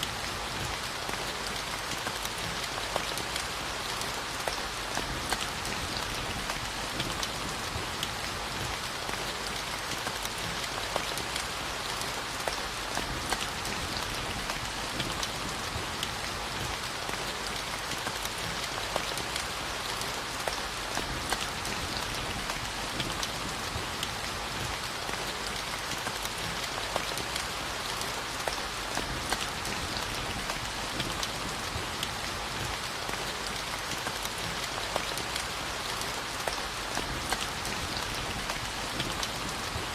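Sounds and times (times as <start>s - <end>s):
rain hiss: 0.0s - 39.9s
raindrops ticking on a surface: 0.0s - 39.9s.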